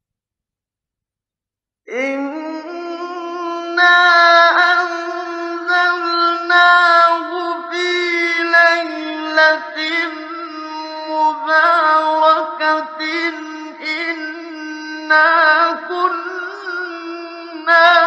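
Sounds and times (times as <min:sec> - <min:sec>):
man reciting melodically: 0:01.9 - 0:18.0.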